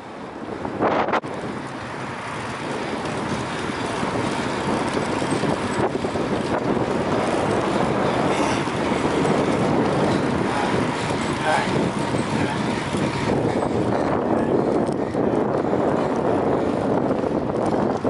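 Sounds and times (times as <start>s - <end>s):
wind-like rushing noise: 0.0s - 18.0s.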